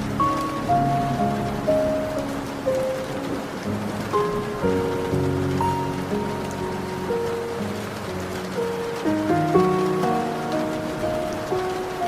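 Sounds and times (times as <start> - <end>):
slow gentle music: 0.0 - 12.0
steady rain hiss: 0.0 - 12.0.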